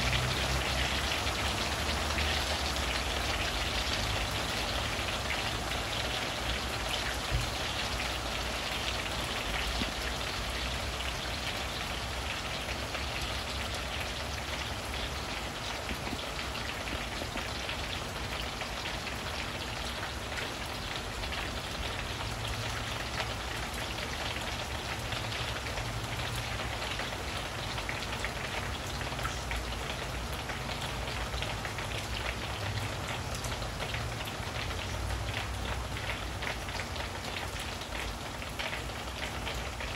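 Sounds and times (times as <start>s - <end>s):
rain on leaves and roof: 0.0s - 39.9s.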